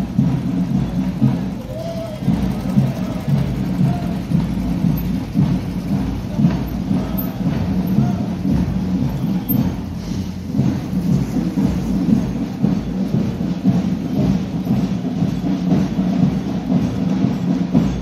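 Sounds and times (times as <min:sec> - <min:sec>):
marching band drums rumbling: 0:00.0 - 0:18.0.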